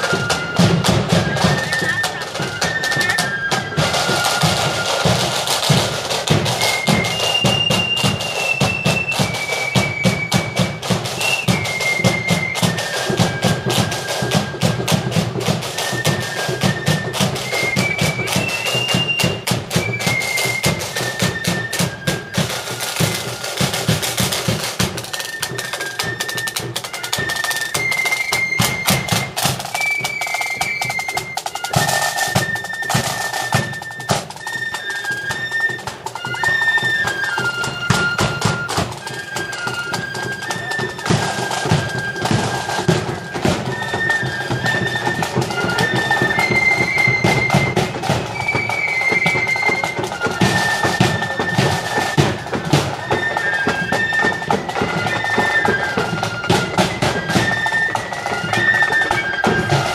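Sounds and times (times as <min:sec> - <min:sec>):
flutes playing a tune: 0:00.0 - 0:59.9
snare drum rolls: 0:00.0 - 0:59.9.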